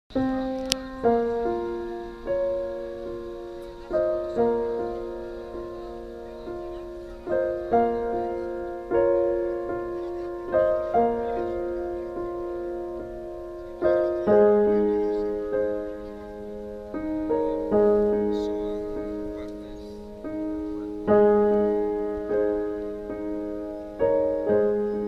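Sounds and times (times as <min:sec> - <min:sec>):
slow solo piano music: 0:00.1 - 0:25.0.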